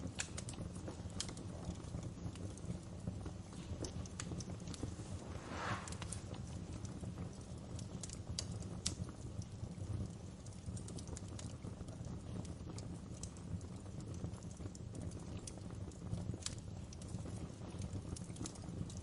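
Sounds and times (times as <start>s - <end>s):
fire crackles and pops: 0.0s - 19.0s
fire low rumble: 0.0s - 19.0s.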